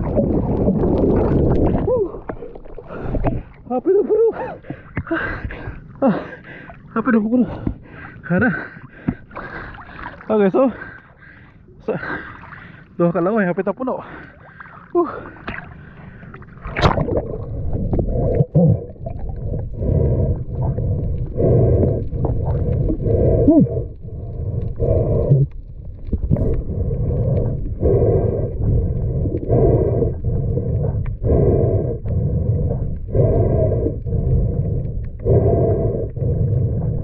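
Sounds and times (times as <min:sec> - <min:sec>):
muffled underwater rumble: 0:00.0 - 0:37.0.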